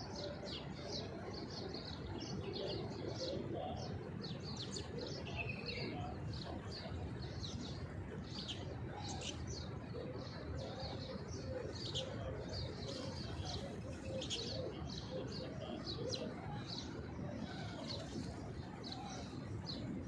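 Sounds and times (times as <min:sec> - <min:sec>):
pigeons cooing: 0:00.0 - 0:20.0
small birds chirping: 0:00.0 - 0:20.0.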